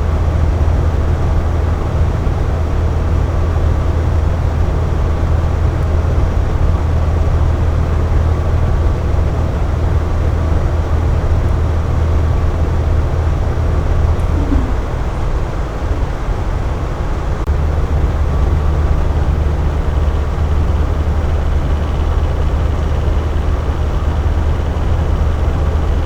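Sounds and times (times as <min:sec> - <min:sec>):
air conditioner running: 0:00.0 - 0:26.0.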